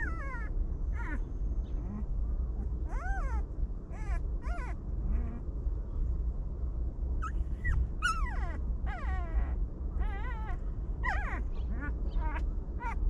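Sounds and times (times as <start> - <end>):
puppies whining: 0.0 - 5.4, 7.2 - 13.0
steady low rumble: 0.0 - 13.0.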